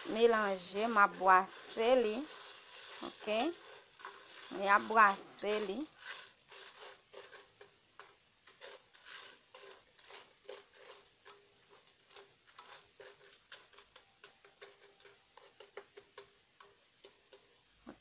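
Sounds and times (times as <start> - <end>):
popcorn kernels rattling in pot: 0.0 - 17.7.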